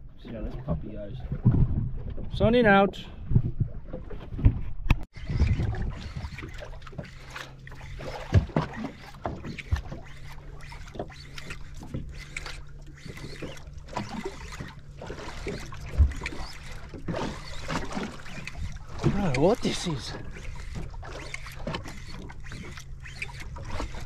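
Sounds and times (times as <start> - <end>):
boat engine hum: 0.0 - 24.0
water slapping against hull: 0.0 - 24.0.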